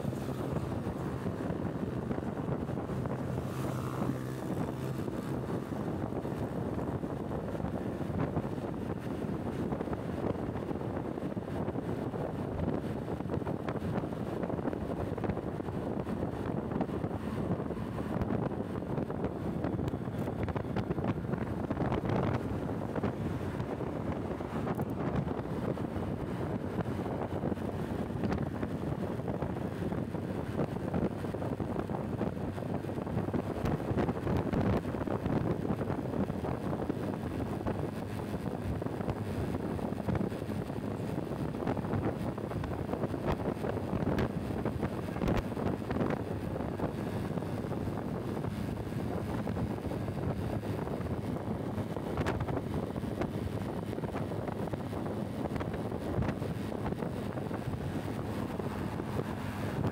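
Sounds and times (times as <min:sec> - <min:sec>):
road and traffic noise: 0:00.0 - 0:59.9
wind buffeting microphone: 0:00.0 - 0:59.9.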